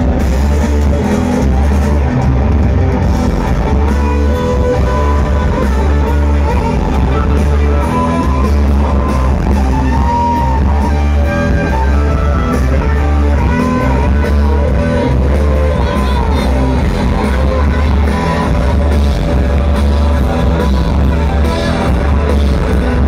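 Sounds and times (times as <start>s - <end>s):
bass guitar: 0.0s - 23.0s
drums: 0.0s - 23.0s
electric guitars: 0.0s - 23.0s.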